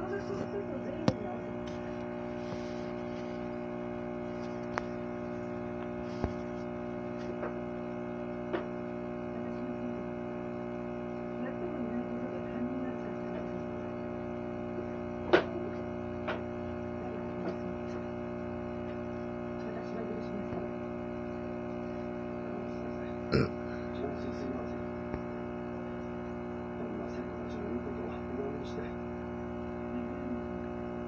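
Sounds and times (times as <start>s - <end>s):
aquarium equipment hum: 0.0s - 31.0s.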